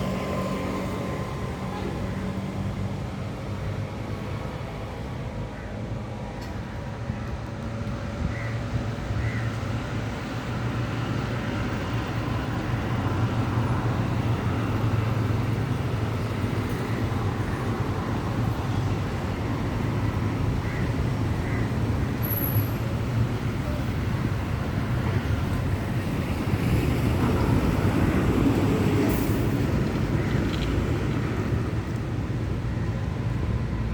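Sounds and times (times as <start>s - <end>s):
road traffic rumble: 0.0s - 33.9s.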